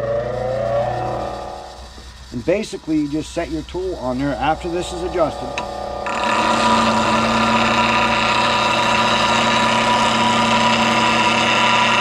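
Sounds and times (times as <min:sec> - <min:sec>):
bench grinder grinding hiss: 0:00.0 - 0:12.0
grinder motor hum: 0:00.0 - 0:12.0.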